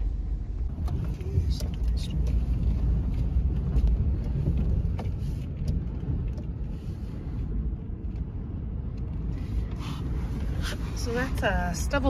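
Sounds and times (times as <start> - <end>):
vehicle cab rumble: 0.0 - 12.0.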